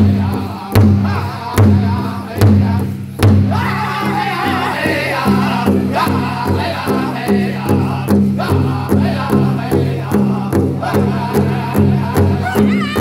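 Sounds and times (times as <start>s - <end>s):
group singing: 0.0s - 13.0s
large drum beating steadily: 0.0s - 13.0s.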